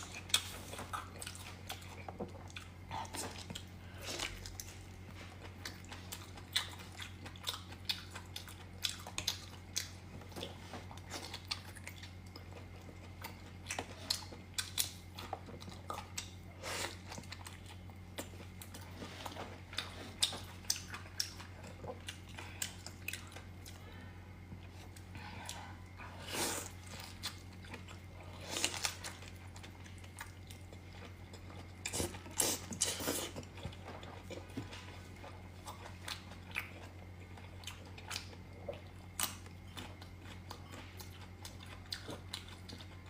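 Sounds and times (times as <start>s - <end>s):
person chewing food: 0.0s - 43.0s
steady low hum: 0.0s - 43.0s.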